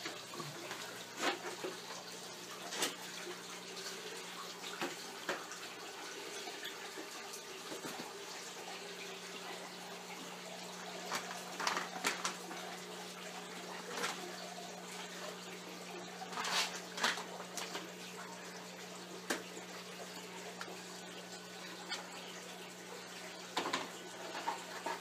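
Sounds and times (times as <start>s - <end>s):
water running and splashing: 0.0s - 25.0s.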